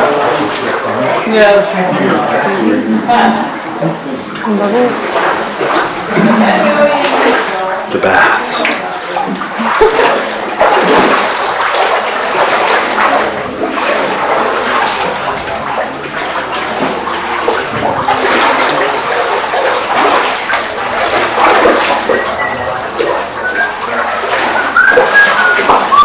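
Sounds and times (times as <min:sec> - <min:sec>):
seawater washing among boulders: 0:00.0 - 0:26.0.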